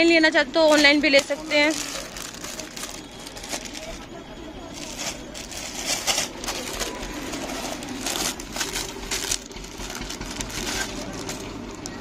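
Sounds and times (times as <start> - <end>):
packaging crinkling and rustling: 0.6 - 12.0.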